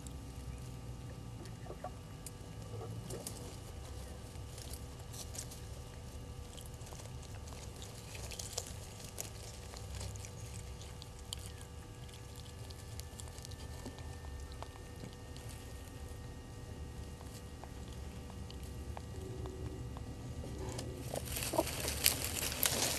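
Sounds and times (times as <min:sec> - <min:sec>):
dry grass and leaves rustling: 0:00.0 - 0:22.9
low steady rumble: 0:00.0 - 0:22.9.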